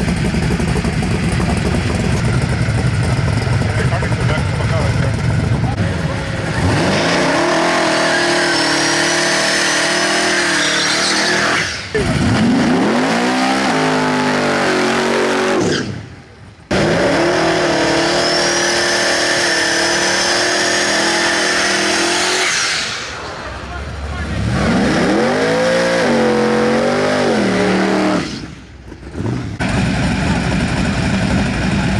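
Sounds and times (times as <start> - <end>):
drag car engines revving: 0.0 - 31.9
tires spinning and squealing: 0.0 - 31.9.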